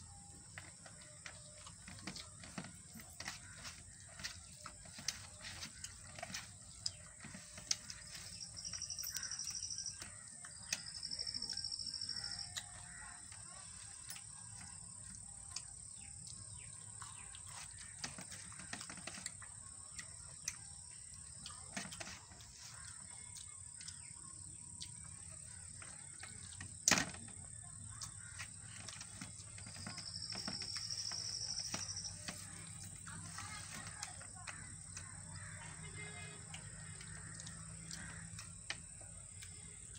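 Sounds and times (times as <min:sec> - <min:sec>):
chewing: 0:00.2 - 0:39.9.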